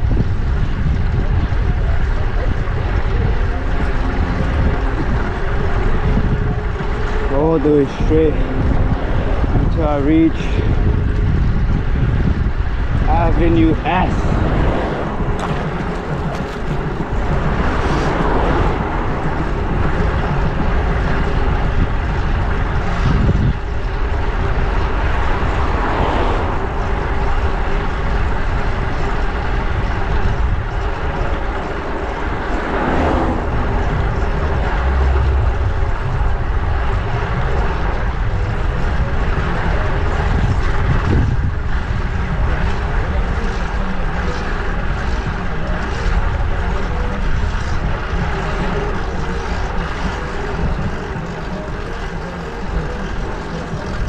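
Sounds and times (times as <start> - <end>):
vehicles passing: 0.0 - 54.0
wind noise on microphone: 0.0 - 54.0.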